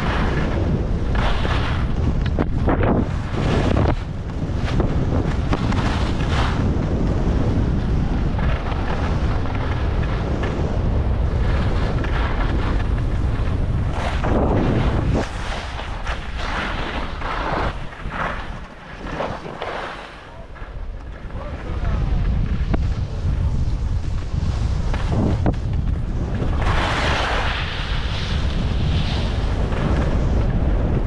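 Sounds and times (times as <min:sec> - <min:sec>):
skis scraping over snow: 0:00.0 - 0:31.0
wind buffeting microphone: 0:00.0 - 0:31.0.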